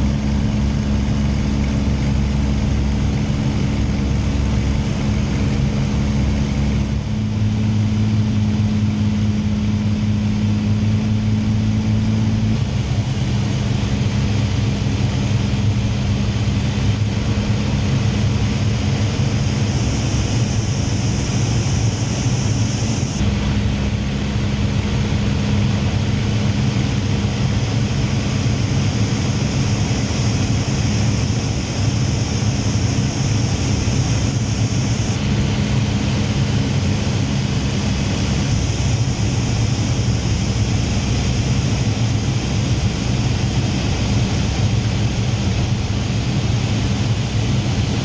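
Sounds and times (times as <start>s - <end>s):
aircraft engine running: 0.0s - 48.0s.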